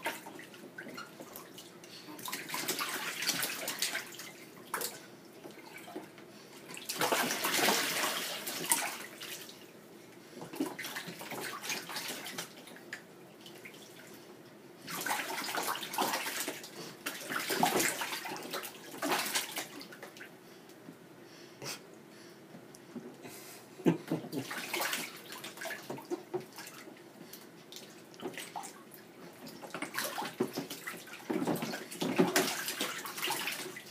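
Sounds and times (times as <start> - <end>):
bath water splashing: 0.0 - 6.0, 6.6 - 9.6, 10.5 - 14.2, 14.9 - 20.3, 24.2 - 33.9.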